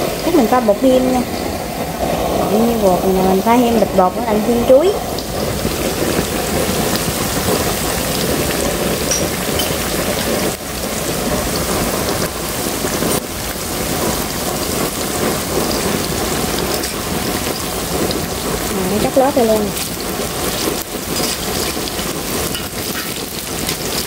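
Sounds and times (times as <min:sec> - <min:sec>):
food deep-frying in bubbling oil: 0:00.0 - 0:24.0.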